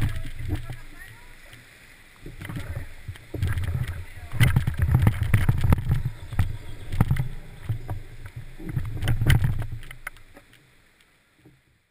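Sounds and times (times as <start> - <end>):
kayak hull sliding over grass: 0.0 - 11.9.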